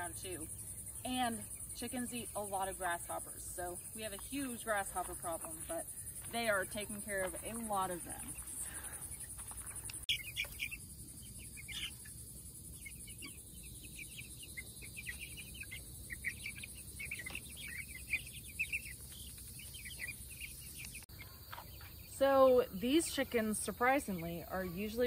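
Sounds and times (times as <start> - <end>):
chicks peeping: 0.0 - 25.0
insects trilling: 0.0 - 25.0.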